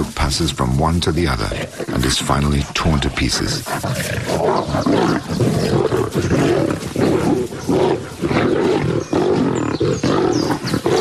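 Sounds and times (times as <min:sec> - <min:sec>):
lions growling and roaring: 0:00.0 - 0:11.0.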